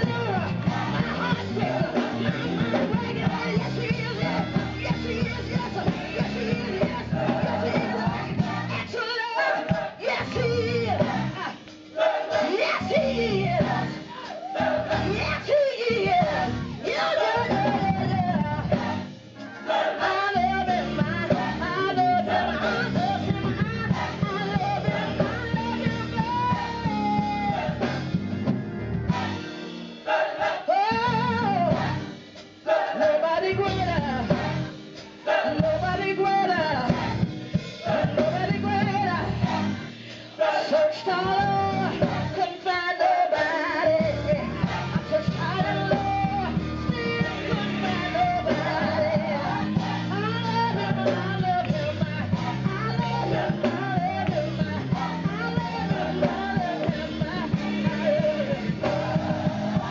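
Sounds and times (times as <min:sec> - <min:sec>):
woman singing gospel into microphone: 0:00.0 - 0:28.0, 0:30.6 - 0:32.2, 0:32.9 - 0:59.9
guitar: 0:00.0 - 0:30.1, 0:30.7 - 0:59.9
drums: 0:00.0 - 0:59.9
keyboard: 0:00.0 - 0:59.9.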